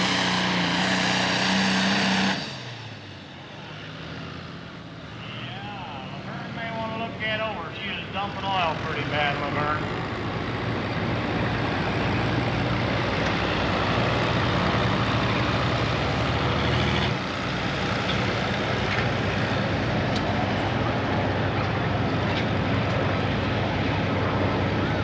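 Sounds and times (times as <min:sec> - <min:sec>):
diesel tractor engine at high throttle: 0:00.0 - 0:25.0.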